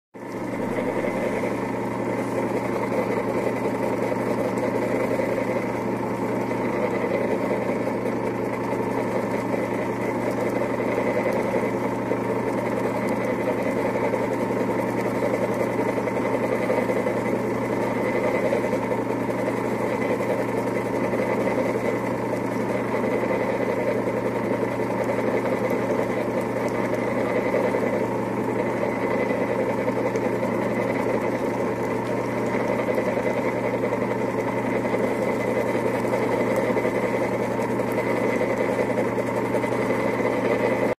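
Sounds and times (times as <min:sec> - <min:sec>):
machine motor humming: 0:00.2 - 0:40.9.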